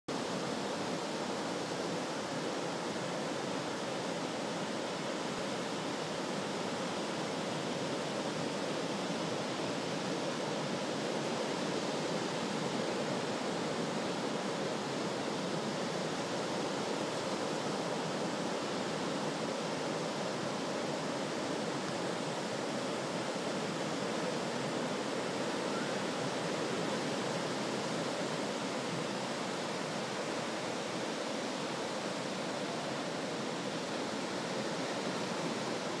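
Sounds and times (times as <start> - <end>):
ocean surf breaking on beach: 0.1 - 36.0.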